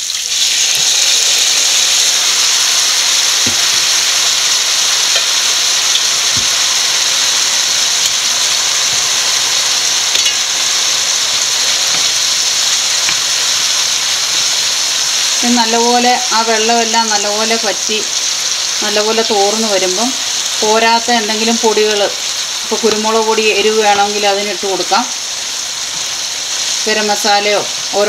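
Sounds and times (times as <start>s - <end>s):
food sizzling in a hot pan: 0.0s - 28.0s.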